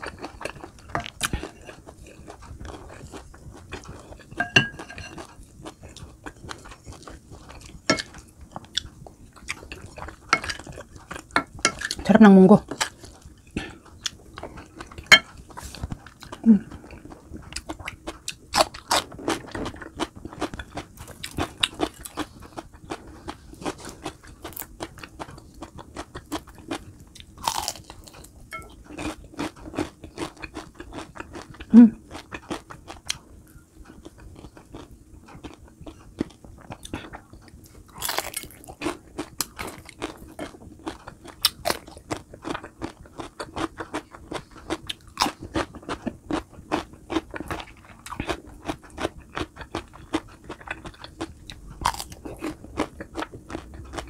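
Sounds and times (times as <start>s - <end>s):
person chewing crispy food: 0.0s - 54.0s.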